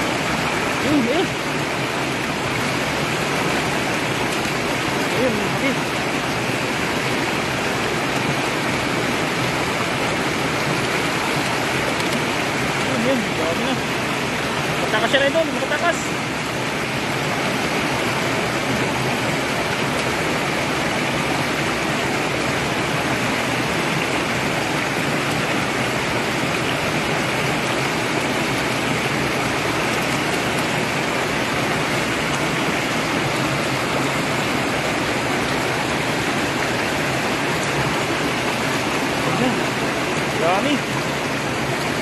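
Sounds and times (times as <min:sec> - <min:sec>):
flowing water rushing: 0:00.0 - 0:42.0.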